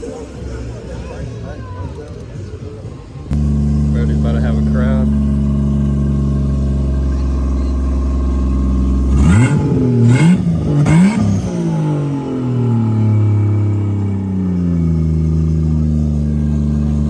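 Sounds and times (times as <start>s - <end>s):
car engine idling and revving: 3.0s - 17.0s.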